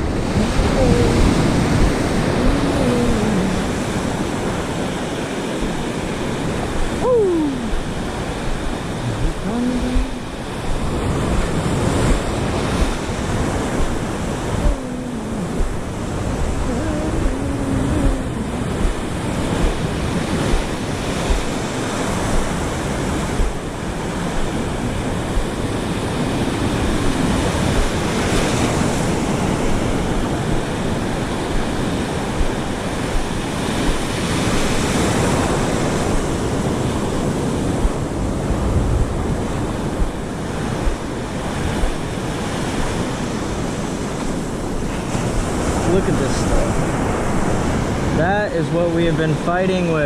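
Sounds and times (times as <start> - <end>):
wind buffeting microphone: 0.0 - 49.8
ocean surf washing on beach: 0.0 - 50.0.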